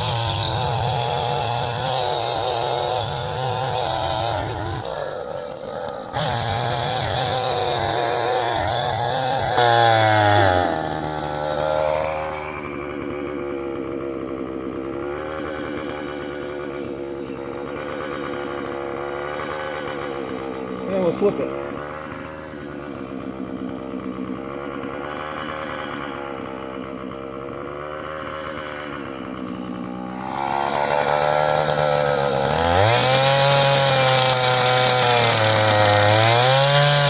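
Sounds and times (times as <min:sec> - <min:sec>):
chainsaw running: 0:00.0 - 0:37.0.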